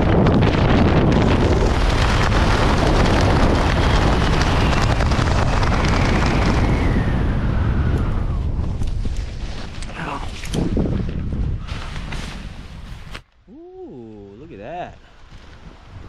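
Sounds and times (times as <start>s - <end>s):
wind buffeting microphone: 0.0s - 13.2s, 14.4s - 16.0s.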